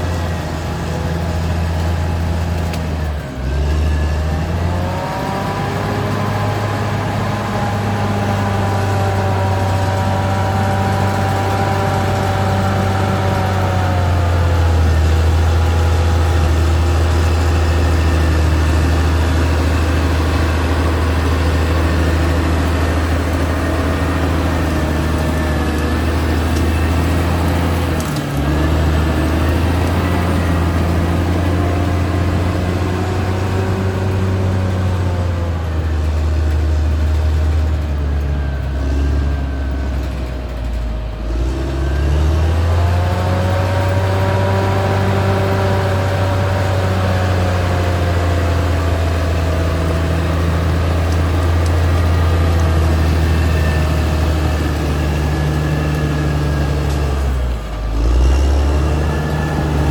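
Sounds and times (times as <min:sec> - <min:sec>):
bulldozer diesel engine running: 0:00.0 - 0:59.9
whining tones gliding: 0:00.0 - 0:59.9.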